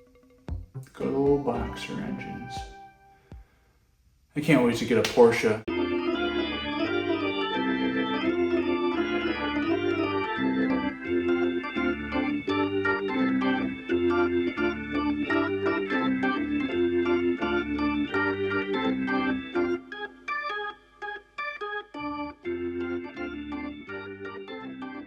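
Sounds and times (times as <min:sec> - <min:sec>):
organ-led instrumental music: 0:00.0 - 0:03.6, 0:04.6 - 0:25.0.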